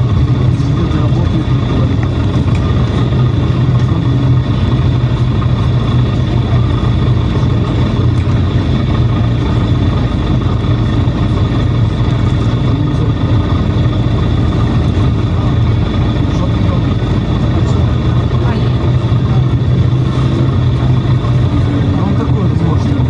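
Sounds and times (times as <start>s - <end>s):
bus engine humming: 0.0s - 23.0s
road noise: 0.0s - 23.0s.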